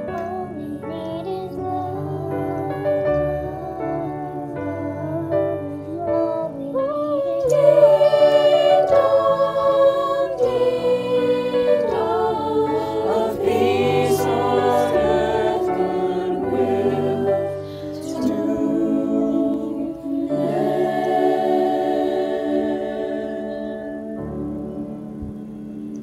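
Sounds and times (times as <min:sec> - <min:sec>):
choir singing in parts: 0:00.0 - 0:26.0.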